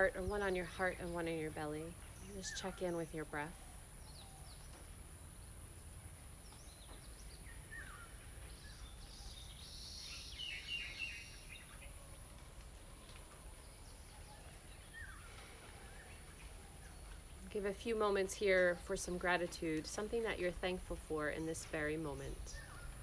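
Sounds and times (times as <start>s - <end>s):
birds chirping: 0.0s - 5.6s, 6.3s - 12.2s, 13.0s - 23.0s
faint background noise: 0.0s - 23.0s.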